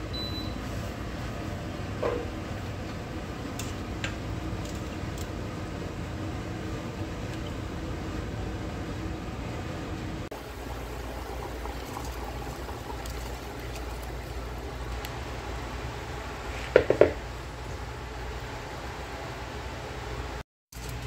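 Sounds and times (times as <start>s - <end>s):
low kitchen hum: 0.0s - 21.0s.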